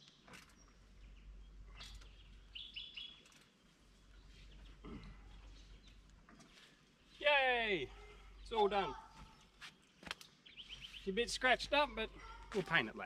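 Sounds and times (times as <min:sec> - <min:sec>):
bird chirping: 0:00.0 - 0:12.7.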